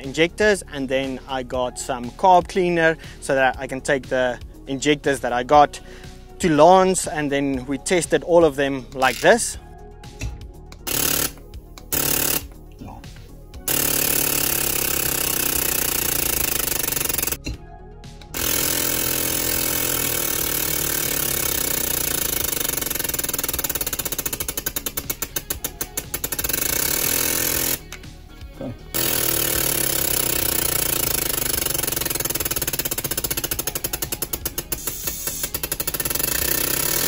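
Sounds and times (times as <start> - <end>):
fuel injectors rattling buzz: 0.0 - 37.0.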